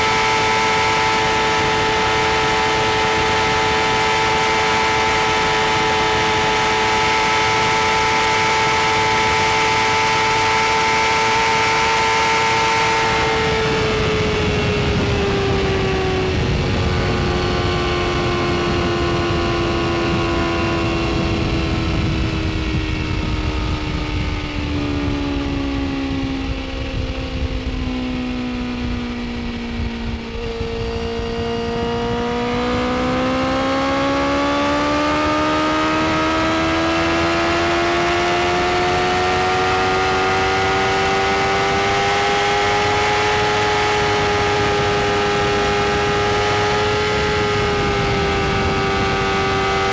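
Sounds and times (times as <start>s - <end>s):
motorcycle engine running at speed: 0.0s - 49.9s
rush of wind: 0.0s - 49.9s.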